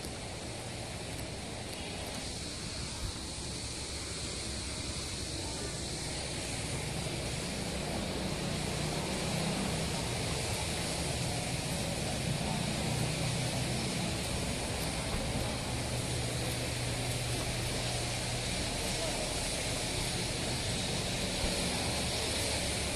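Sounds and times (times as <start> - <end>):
vehicle engine approaching: 0.0 - 22.9.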